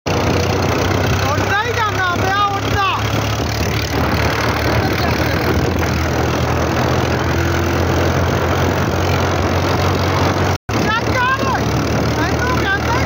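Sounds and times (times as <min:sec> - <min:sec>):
tractor diesel engine running: 0:00.1 - 0:13.0.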